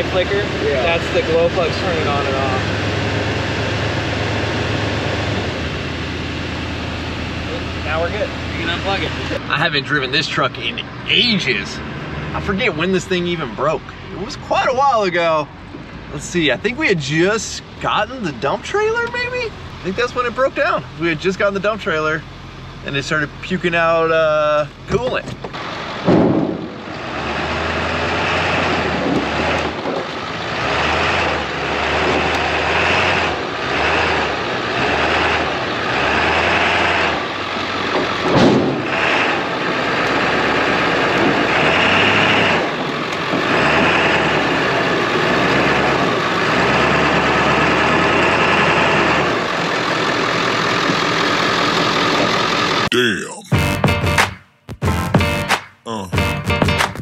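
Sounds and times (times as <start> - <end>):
diesel pickup engine running: 0.0 - 52.9.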